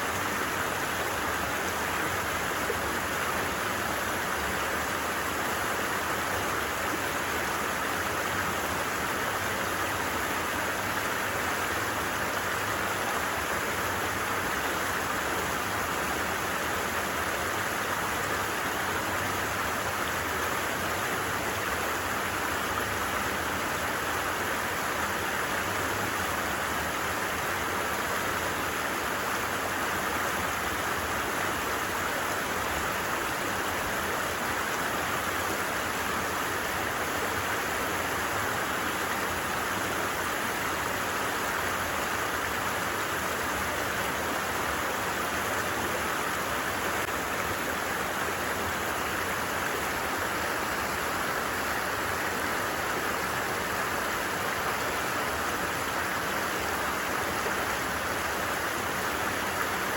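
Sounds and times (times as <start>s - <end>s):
creek water babbling: 0.0s - 59.9s.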